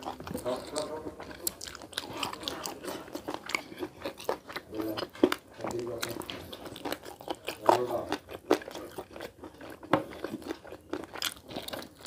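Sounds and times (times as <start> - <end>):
person chewing with wet smacks: 0.0 - 12.0.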